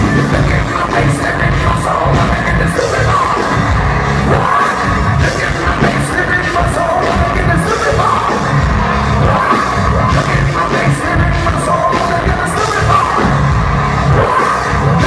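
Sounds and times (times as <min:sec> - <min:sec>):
live rock band playing: 0:00.0 - 0:15.0
person singing into microphone: 0:00.0 - 0:15.0.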